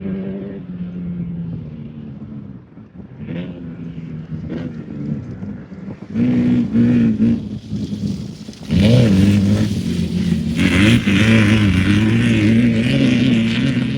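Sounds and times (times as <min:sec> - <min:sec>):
race vehicle engine revving: 0:00.0 - 0:13.9.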